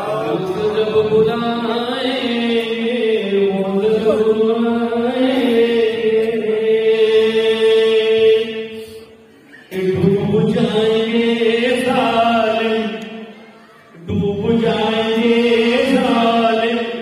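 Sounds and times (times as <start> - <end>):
man chanting: 0.0 - 8.7, 9.7 - 13.0, 14.0 - 17.0.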